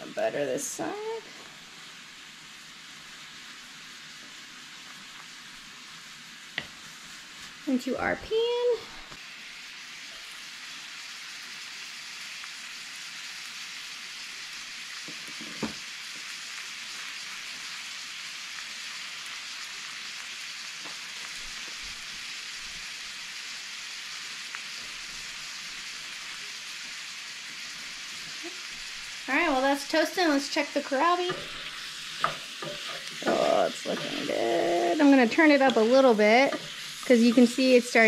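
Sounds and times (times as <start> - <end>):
sandwich sizzling in skillet: 0.0 - 38.0.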